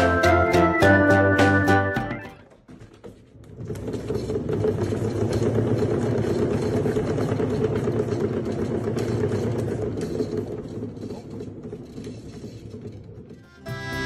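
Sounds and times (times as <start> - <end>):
cat exercise wheel rumbling: 2.4 - 14.0.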